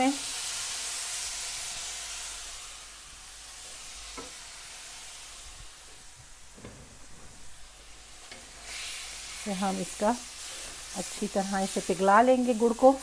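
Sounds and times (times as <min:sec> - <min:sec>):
water sizzling in hot wok: 0:00.0 - 0:13.0.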